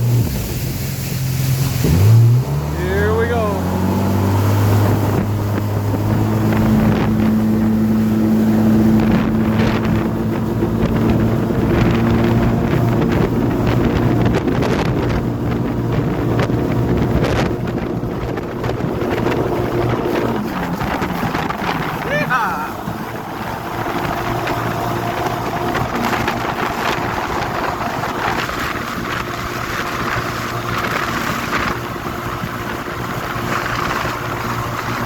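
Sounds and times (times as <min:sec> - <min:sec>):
wind noise on microphone: 0:00.0 - 0:02.7, 0:03.6 - 0:35.0
watercraft engine running: 0:00.0 - 0:35.0.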